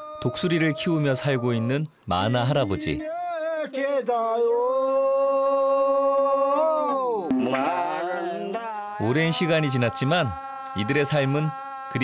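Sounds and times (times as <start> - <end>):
man singing: 0.0 - 12.0.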